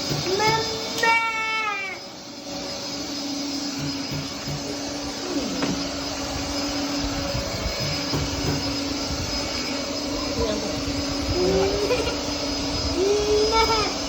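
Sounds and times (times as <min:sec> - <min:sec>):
stick vacuum running: 0:00.0 - 0:14.0.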